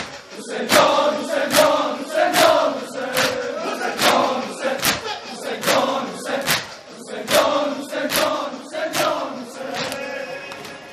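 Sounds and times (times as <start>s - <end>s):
male voices chanting: 0.3s - 10.9s.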